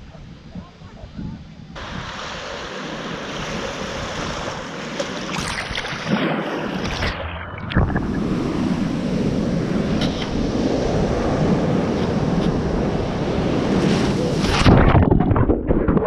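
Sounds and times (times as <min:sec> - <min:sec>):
wind buffeting microphone: 0:00.0 - 0:04.7, 0:05.3 - 0:16.0
ocean surf breaking: 0:01.8 - 0:15.0.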